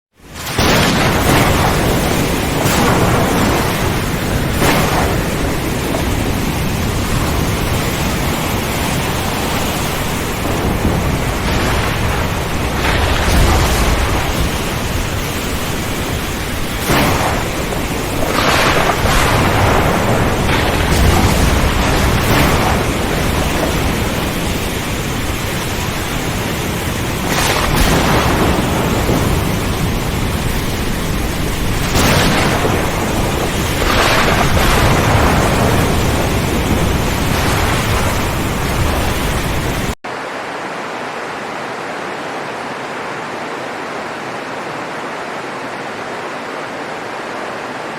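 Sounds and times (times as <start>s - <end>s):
heavy rain pouring: 0.1s - 47.9s
water rushing: 0.1s - 47.9s.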